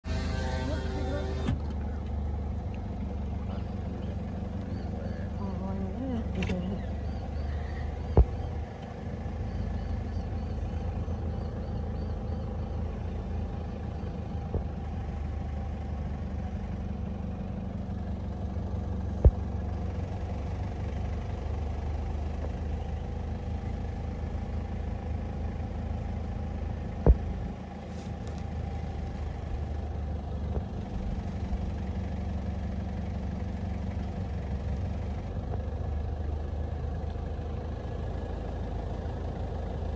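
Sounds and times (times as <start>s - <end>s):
motor idling hum: 0.0s - 39.9s.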